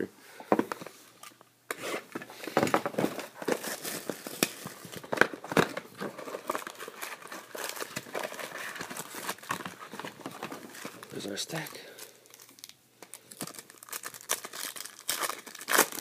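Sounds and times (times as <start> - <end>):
plastic wrap crinkling: 2.6 - 16.0.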